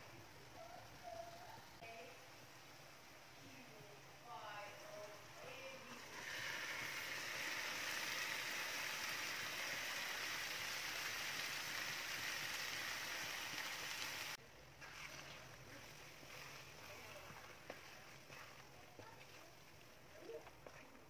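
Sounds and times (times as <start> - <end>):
food sizzling in a pan: 0.0 - 19.9.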